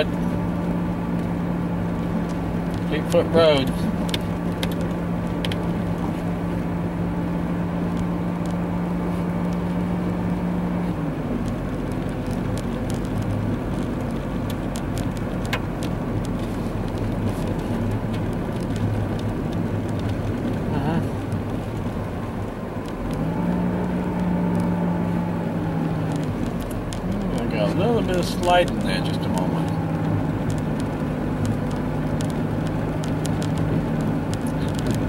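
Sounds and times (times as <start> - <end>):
car engine and road drone: 0.0 - 35.0.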